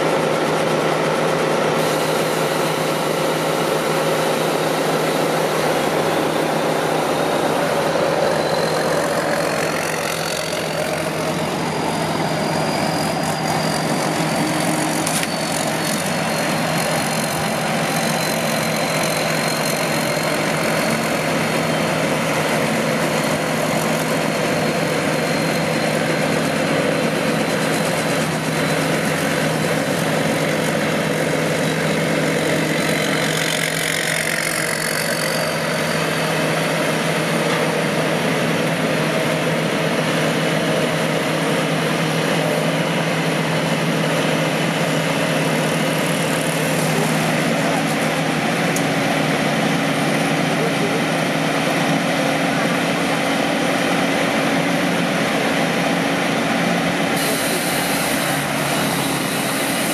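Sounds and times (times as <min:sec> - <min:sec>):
diesel engine humming with whine: 0:00.0 - 0:59.9.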